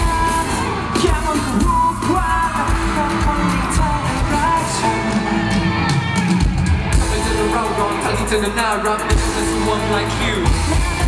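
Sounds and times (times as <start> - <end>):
loud pop song with singing: 0.0 - 11.0.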